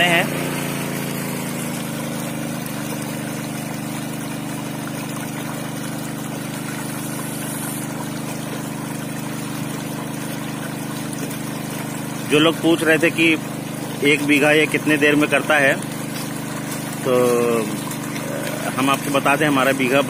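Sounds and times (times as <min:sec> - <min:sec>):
water gushing from hose: 0:00.0 - 0:20.0
water pump engine running: 0:00.0 - 0:20.0.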